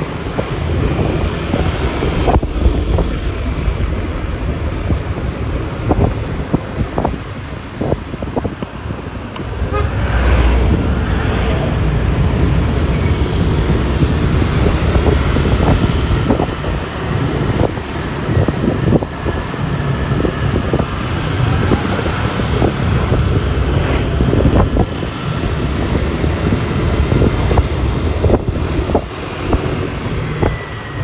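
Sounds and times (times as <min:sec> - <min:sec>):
low road rumble: 0:00.0 - 0:31.0
passing vehicle: 0:00.0 - 0:31.0
wind buffeting microphone: 0:00.0 - 0:31.0.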